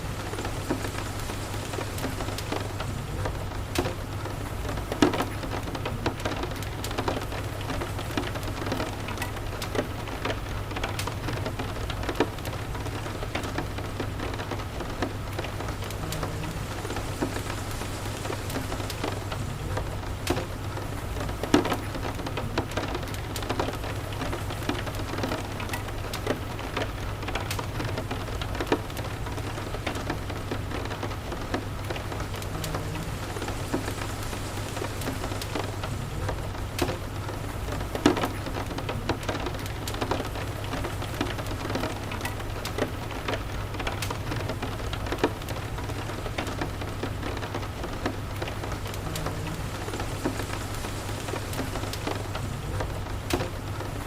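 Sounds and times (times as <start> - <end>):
fireplace crackles and pops: 0.0 - 54.0
steady rain: 0.0 - 54.0.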